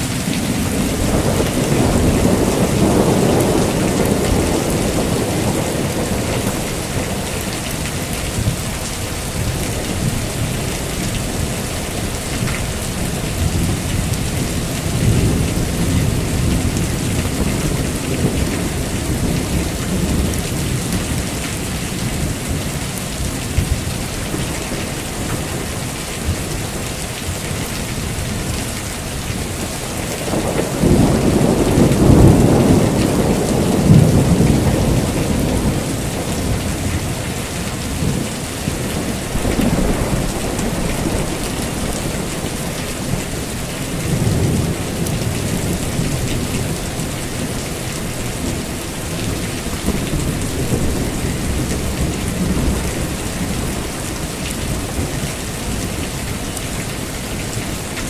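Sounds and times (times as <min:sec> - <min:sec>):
rolling thunder: 0:00.0 - 0:56.4
heavy rain: 0:00.0 - 0:58.0.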